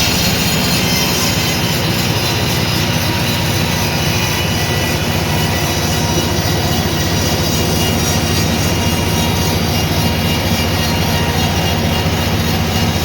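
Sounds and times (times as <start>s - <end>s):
sawmill machinery drone: 0.0s - 13.0s.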